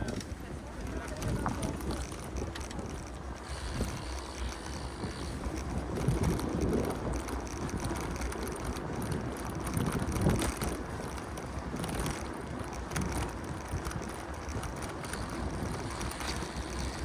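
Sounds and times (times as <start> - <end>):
bicycle tyre rumble: 0.0 - 17.0
bike clicks and rattles: 0.0 - 17.0
wind on microphone: 0.0 - 17.0.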